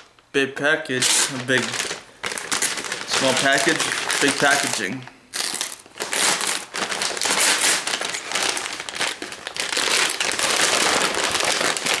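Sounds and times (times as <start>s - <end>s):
packaging crinkling: 1.0s - 12.0s.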